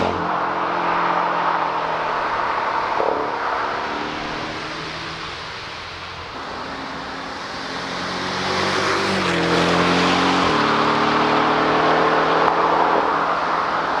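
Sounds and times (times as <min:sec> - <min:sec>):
car engine under load: 0:00.0 - 0:14.0
tyre and road noise: 0:00.0 - 0:14.0.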